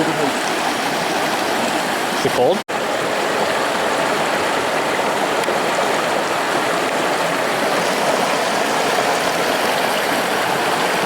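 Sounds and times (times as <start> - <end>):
rushing mountain stream: 0.0 - 11.0.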